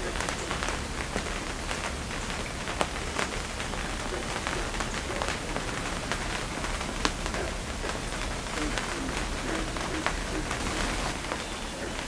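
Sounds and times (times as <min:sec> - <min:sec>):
rain on plastic roof: 0:00.0 - 0:12.0.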